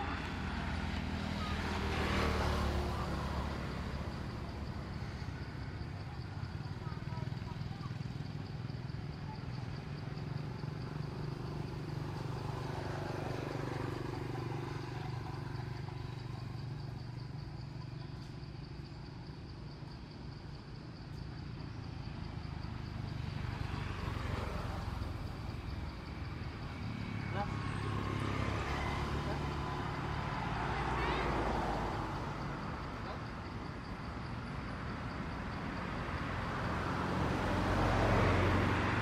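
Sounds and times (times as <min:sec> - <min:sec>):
low engine-like hum: 0:00.0 - 0:39.0.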